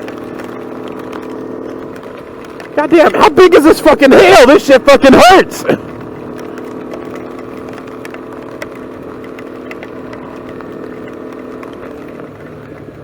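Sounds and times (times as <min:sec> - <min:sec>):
hail ticking: 0:00.0 - 0:13.0
motorcycle engine cruising: 0:00.0 - 0:13.0.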